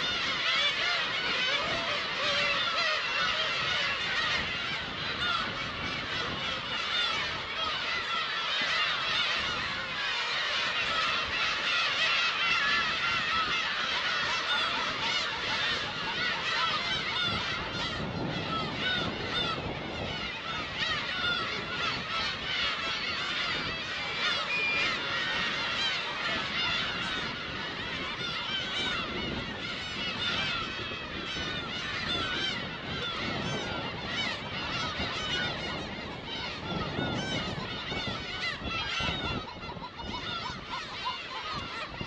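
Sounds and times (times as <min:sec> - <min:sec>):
gulls calling in chorus: 0:00.0 - 0:42.0.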